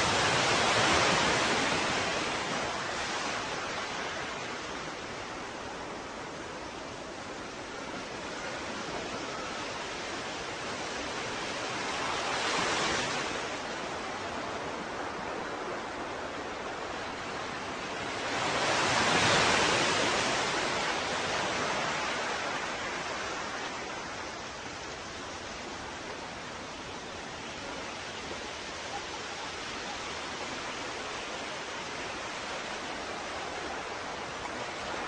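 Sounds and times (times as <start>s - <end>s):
ocean waves washing in: 0.0s - 35.0s.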